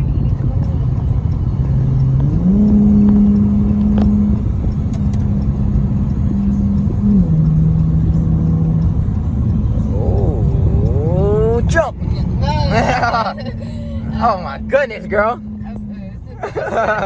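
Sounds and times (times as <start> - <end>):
car engine revving: 0.0 - 17.0
road rumble: 0.0 - 17.0.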